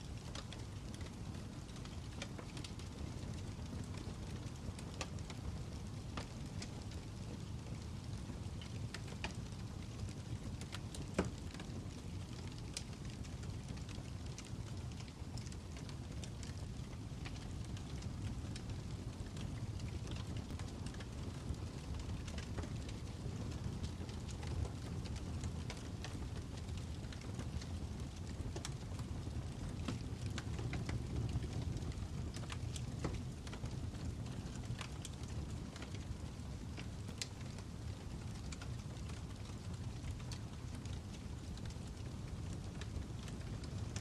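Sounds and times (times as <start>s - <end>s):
fire crackling: 0.0s - 44.0s.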